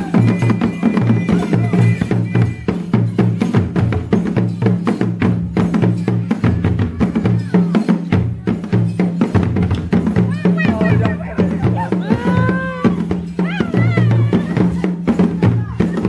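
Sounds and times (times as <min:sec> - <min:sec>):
drums in fast rhythm: 0:00.0 - 0:16.0.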